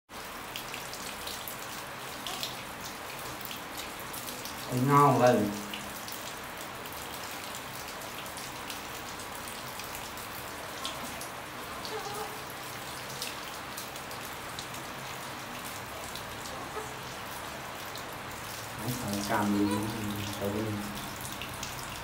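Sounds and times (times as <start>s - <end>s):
faint drips and splashes: 0.1s - 22.0s
water spattering on tiled floor: 0.1s - 22.0s.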